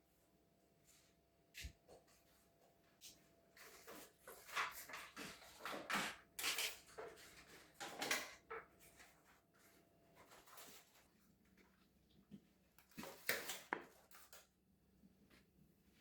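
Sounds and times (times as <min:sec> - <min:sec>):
objects rustling and clattering: 0:00.8 - 0:14.5.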